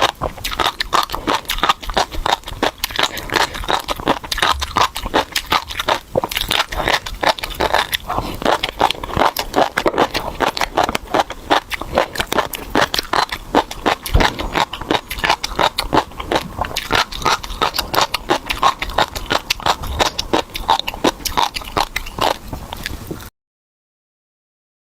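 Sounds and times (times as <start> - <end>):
mouth chewing popping fish roe: 0.0 - 23.3.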